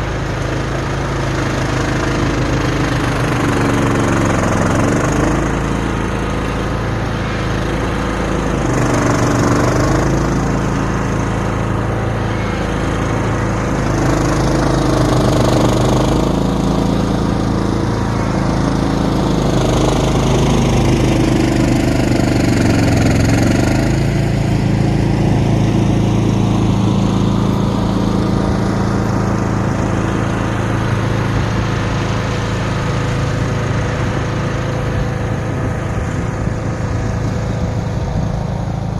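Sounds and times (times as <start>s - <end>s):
lawn tractor engine under load: 0.0s - 38.9s.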